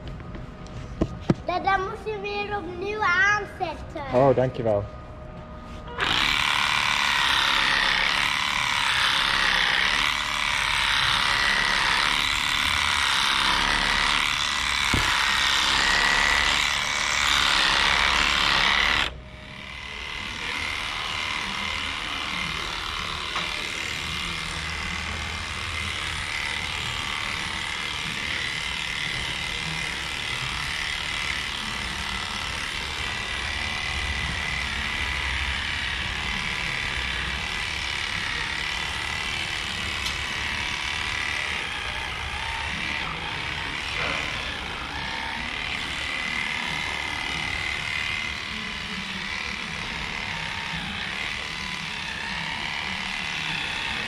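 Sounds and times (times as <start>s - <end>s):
electric clipper buzzing and whining: 5.9s - 54.0s.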